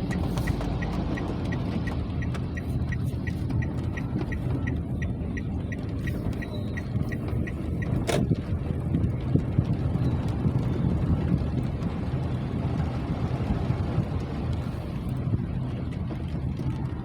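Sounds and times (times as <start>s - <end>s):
rain rumbling: 0.0s - 17.0s.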